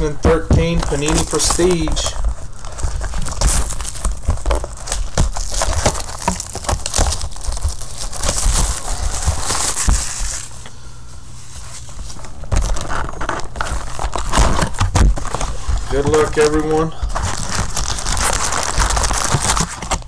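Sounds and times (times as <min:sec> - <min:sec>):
plastic wrap crinkling and tearing: 0:00.0 - 0:20.0.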